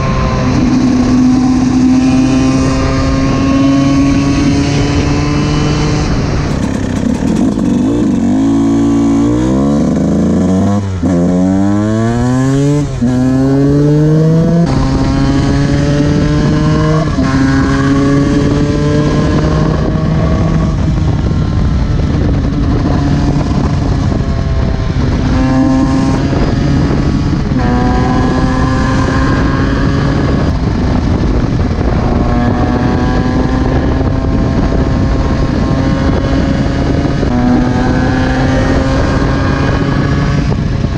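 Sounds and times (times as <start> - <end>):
two-stroke engine accelerating: 0.0 - 40.9.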